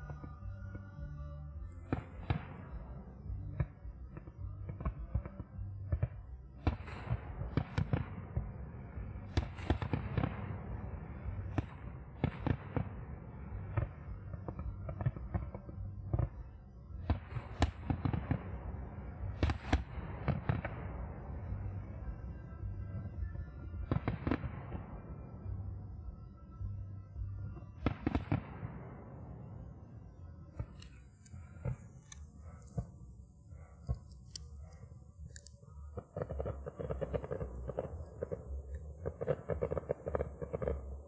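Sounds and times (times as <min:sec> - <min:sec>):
fireworks crackling: 0:00.0 - 0:00.8, 0:01.6 - 0:26.4, 0:27.3 - 0:29.6, 0:30.4 - 0:41.0
fireworks bursting: 0:01.6 - 0:41.0.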